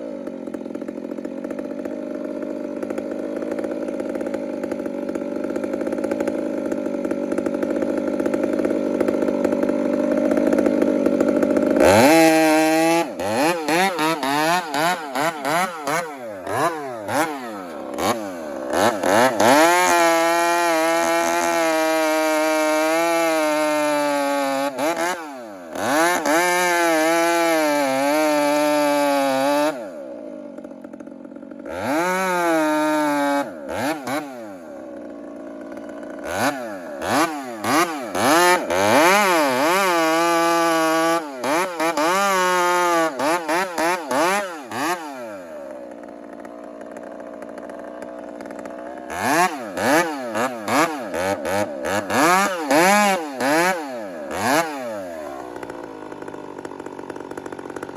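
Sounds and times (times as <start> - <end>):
chainsaw engine revving: 0.0 - 57.9.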